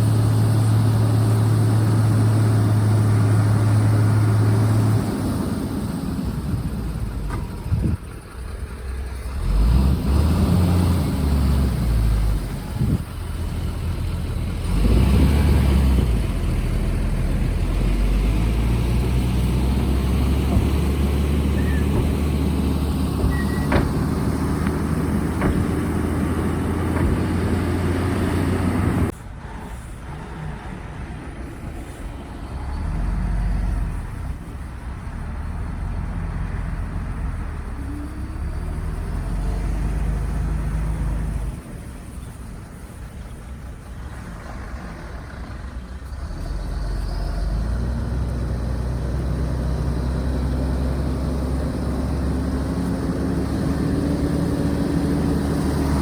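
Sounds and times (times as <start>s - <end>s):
heavy diesel engines working: 0.0s - 56.0s.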